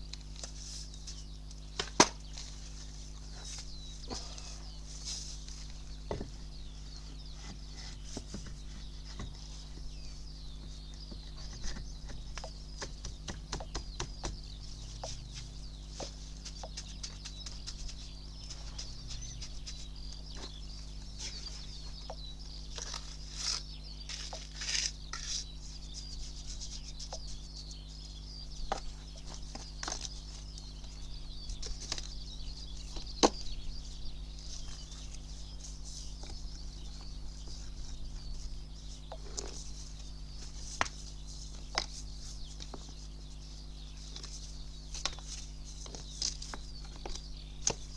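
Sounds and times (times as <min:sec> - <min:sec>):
birds chirping: 0:00.0 - 0:47.9
steady low hum: 0:00.0 - 0:47.9.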